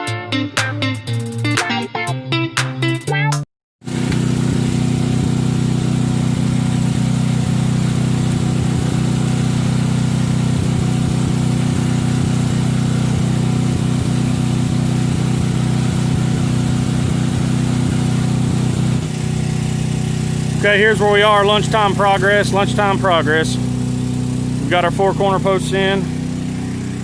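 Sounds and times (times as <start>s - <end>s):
engine running steadily: 3.9s - 27.0s.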